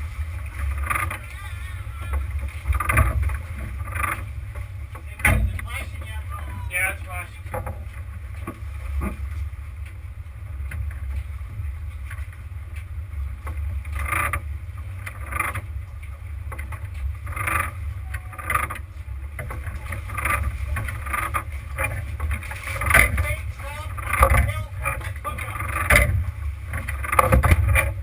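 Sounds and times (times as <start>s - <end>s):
boat engine rumble: 0.0s - 28.0s.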